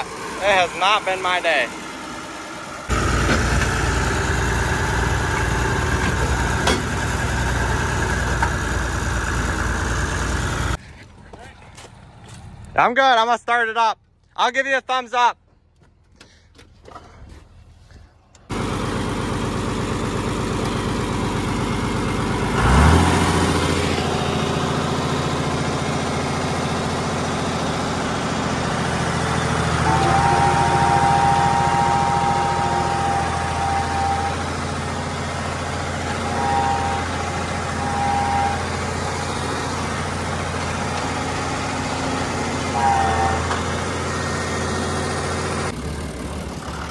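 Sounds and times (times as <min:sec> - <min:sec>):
tractor engine running: 0:00.0 - 0:12.8, 0:15.6 - 0:46.9.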